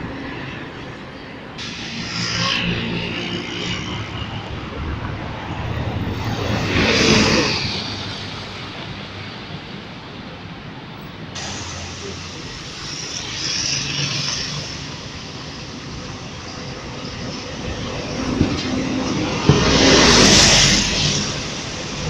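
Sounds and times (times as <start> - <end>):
bus engines approaching: 0.0 - 22.0
bus passing: 0.0 - 22.0
traffic passing: 0.0 - 22.0.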